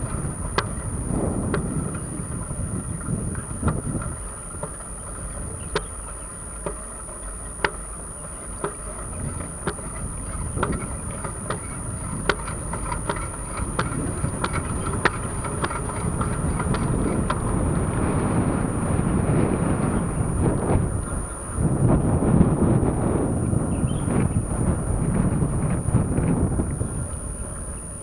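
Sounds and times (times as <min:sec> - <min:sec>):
bicycle clicks: 0:00.0 - 0:23.0
steady high whine: 0:00.0 - 0:28.0
wind on microphone: 0:00.0 - 0:28.0.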